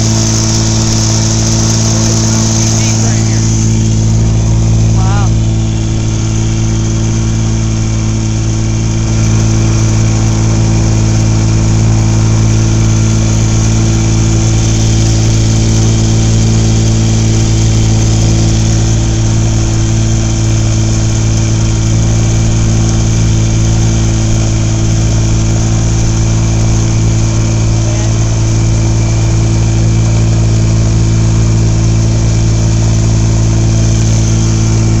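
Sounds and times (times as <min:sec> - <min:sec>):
boat motor running: 0:00.0 - 0:35.0.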